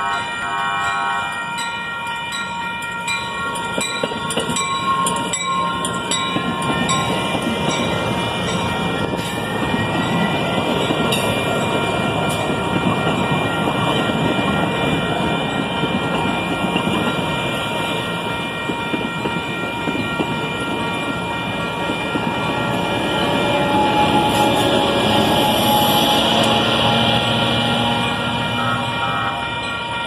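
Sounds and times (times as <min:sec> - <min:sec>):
train wheels rumbling on rail: 0:02.4 - 0:30.0.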